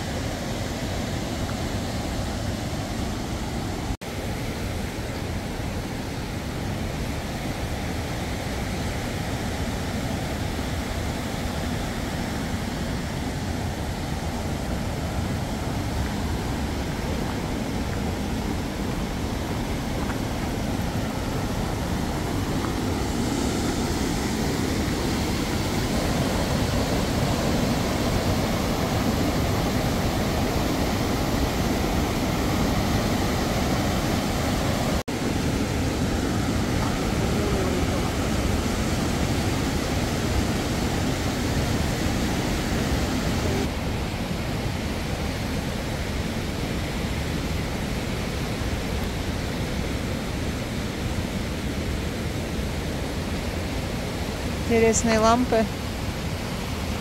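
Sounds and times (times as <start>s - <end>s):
stream rushing over boulders: 0.0s - 57.0s.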